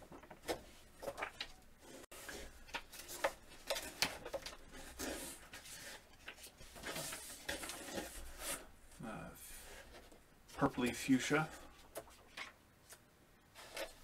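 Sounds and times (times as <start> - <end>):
vinyl sheets crinkling: 0.0 - 14.0.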